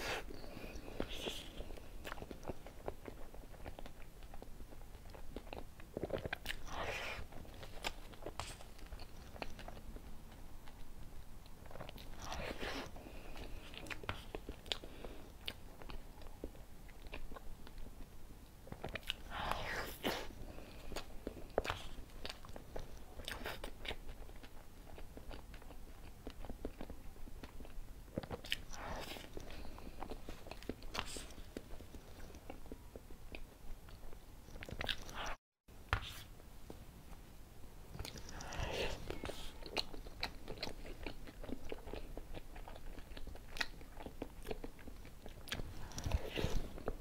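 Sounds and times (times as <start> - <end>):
wet chewing and lip smacking: 0.0 - 35.4, 37.9 - 47.0.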